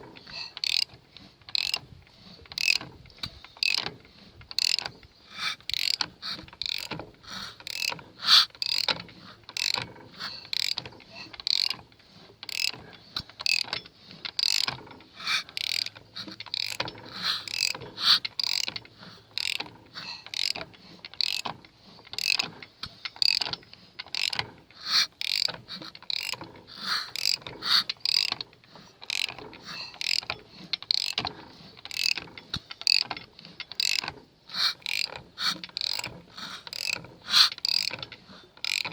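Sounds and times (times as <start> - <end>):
engine clicking turned by hand: 0.0 - 38.9.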